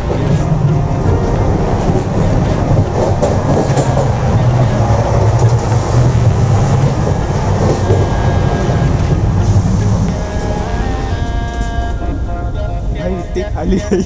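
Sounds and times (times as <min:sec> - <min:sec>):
train rumbling and rattling: 0:00.0 - 0:14.0.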